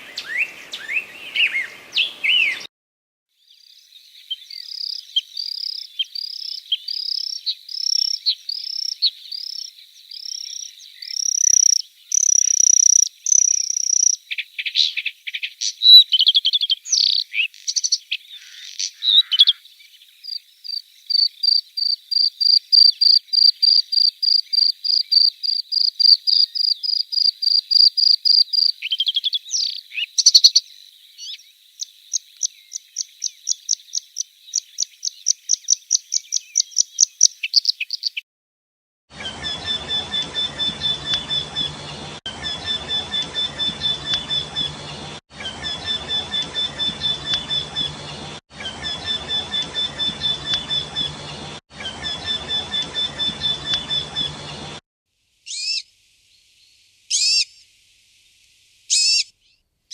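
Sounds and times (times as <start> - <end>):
songbird singing: 0.0 - 2.7, 3.3 - 38.2, 39.1 - 54.8, 55.4 - 59.7.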